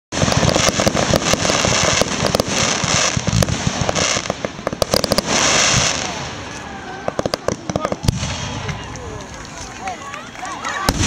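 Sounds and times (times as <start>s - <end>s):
fireworks crackling and popping: 0.1s - 11.0s.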